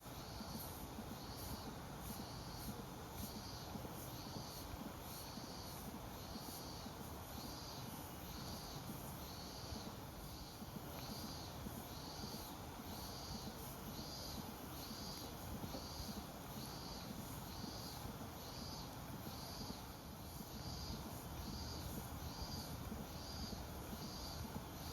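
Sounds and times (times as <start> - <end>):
low background noise: 0.0 - 24.9.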